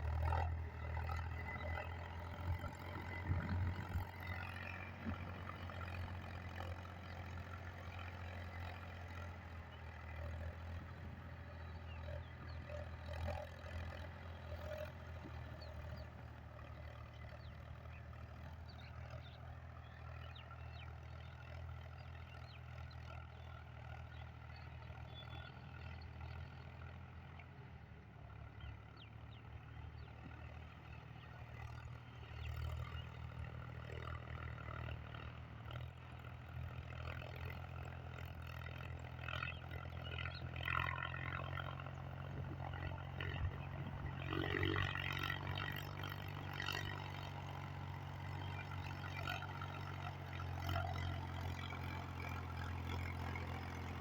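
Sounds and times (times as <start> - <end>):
tractor engine humming: 0.0 - 54.0.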